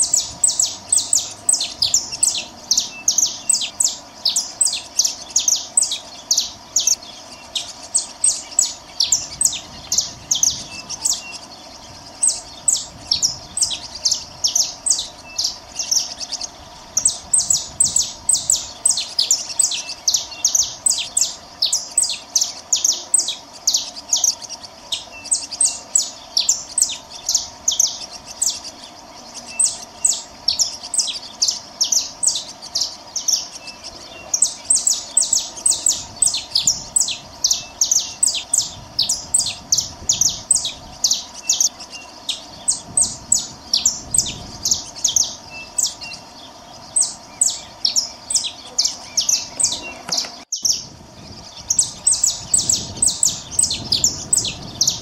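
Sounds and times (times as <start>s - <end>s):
finches chirping: 0.0s - 55.0s.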